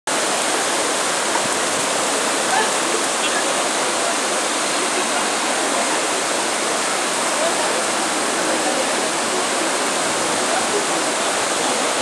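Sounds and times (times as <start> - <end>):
river rapids rushing over rocks: 0.1 - 12.0.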